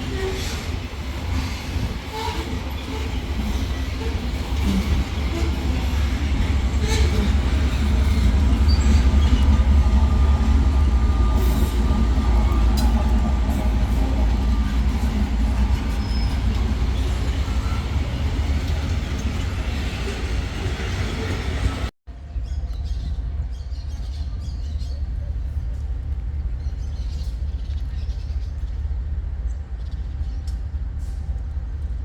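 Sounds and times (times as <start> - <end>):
freight train rumbling on rails: 0.0 - 32.0.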